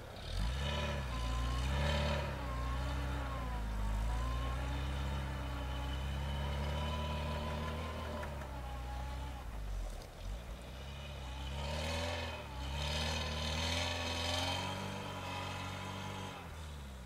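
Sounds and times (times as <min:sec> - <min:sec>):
suv engine revving: 0:00.0 - 0:17.0.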